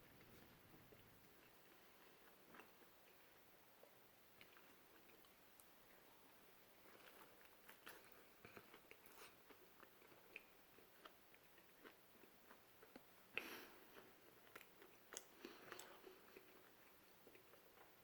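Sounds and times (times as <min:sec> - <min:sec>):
close chewing with mouth clicks: 0:00.2 - 0:06.1, 0:06.8 - 0:18.0.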